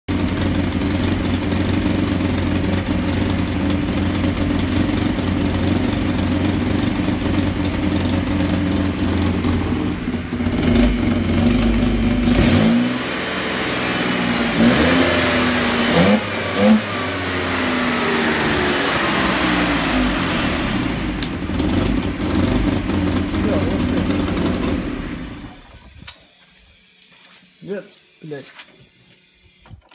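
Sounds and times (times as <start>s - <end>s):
car engine idling: 0.1s - 28.4s
engine throttle blips: 0.1s - 28.4s.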